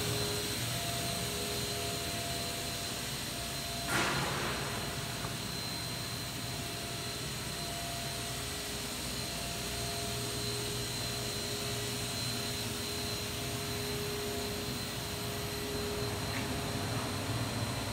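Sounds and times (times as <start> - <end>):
machinery hum and whir: 0.0 - 17.9.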